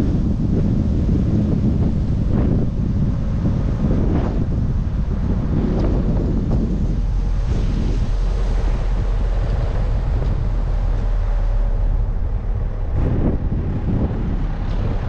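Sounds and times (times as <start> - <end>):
road and engine rumble: 0.0 - 15.0
wind buffeting microphone: 0.0 - 15.0.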